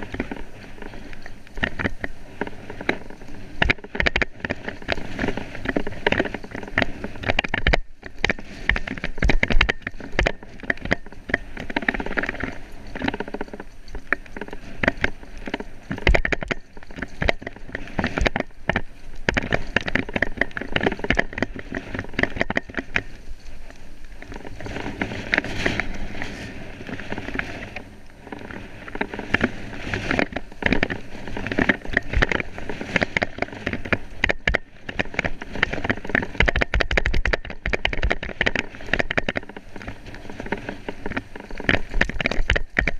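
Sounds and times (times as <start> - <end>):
mountain bike rattling on dirt trail: 0.0 - 42.9.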